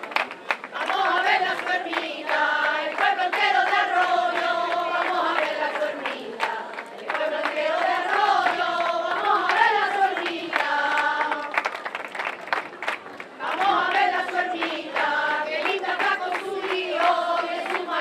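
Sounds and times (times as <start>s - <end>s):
hand claps: 0.0s - 18.0s
group singing in unison: 0.7s - 11.8s, 13.4s - 18.0s.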